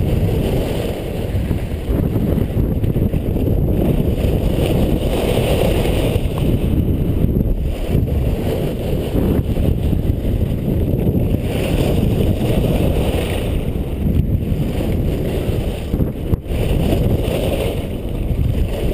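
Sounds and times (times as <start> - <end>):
wind rushing over microphone: 0.0 - 18.9.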